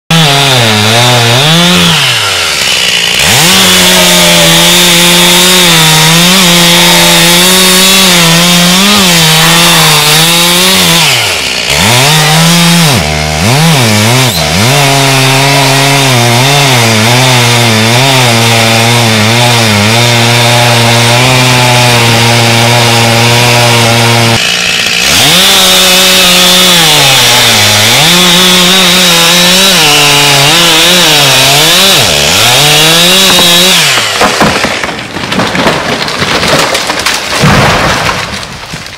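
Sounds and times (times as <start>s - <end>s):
chainsaw cutting tree trunk: 0.1s - 38.9s.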